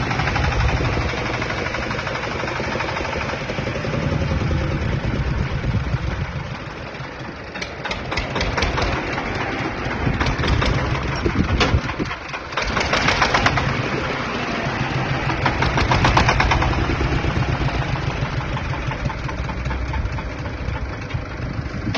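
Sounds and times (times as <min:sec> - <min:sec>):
tractor engine clattering: 0:00.0 - 0:21.9.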